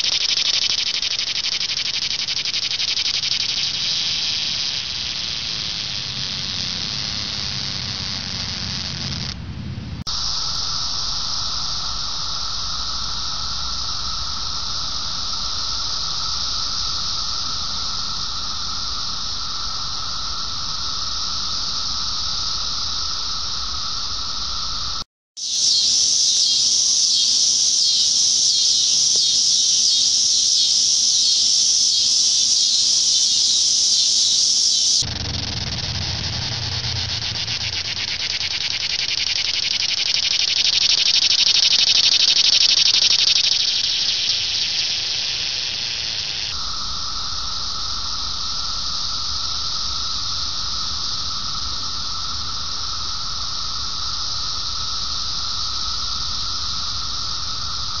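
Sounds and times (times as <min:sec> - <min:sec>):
cicadas droning: 0:00.0 - 0:09.4, 0:10.0 - 0:58.0.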